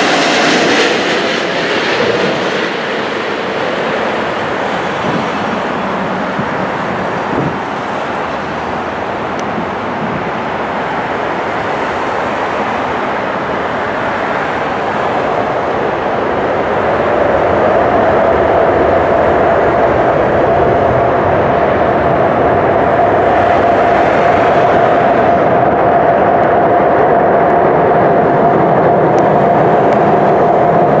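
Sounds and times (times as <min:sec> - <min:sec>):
jet engines whining and roaring: 0:00.0 - 0:31.0.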